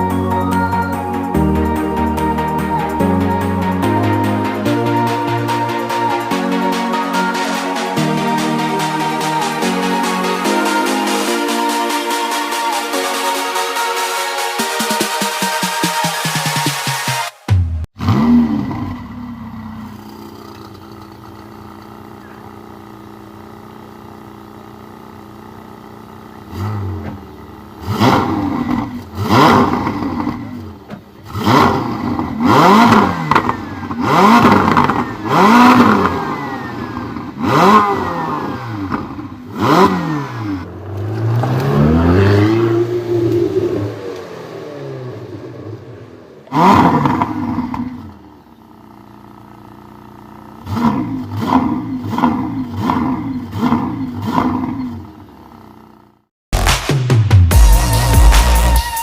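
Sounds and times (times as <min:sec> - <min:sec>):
car engine revving: 0:00.6 - 0:22.9, 0:25.8 - 0:55.8.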